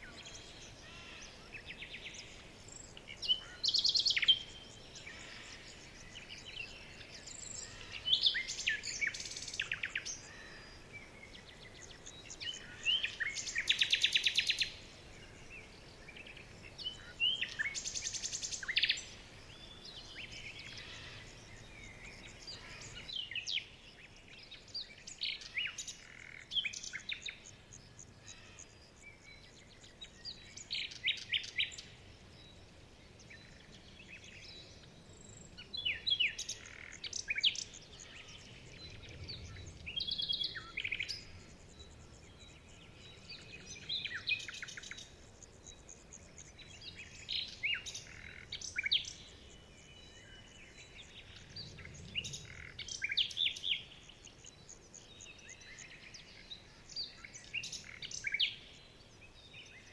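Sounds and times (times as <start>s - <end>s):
faint background hiss: 0.0s - 59.9s
songbirds chirping and trilling: 0.0s - 59.9s.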